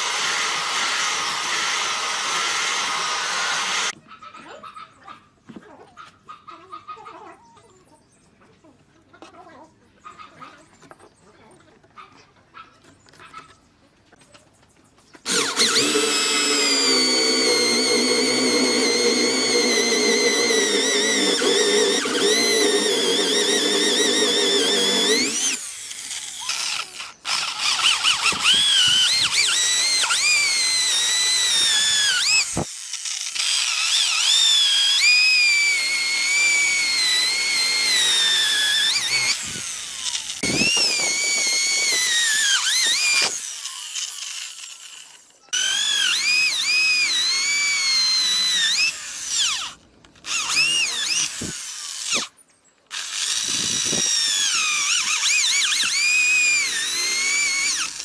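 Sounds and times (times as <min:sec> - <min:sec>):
power drill whining on wood: 0:00.0 - 0:04.0, 0:15.2 - 0:58.0.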